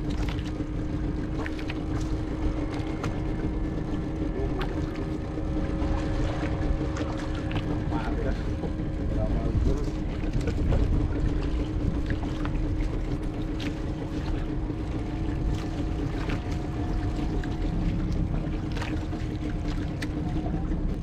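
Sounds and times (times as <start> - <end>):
boat engine running: 0.0 - 21.0
water noise: 0.0 - 21.0
wind: 0.0 - 21.0.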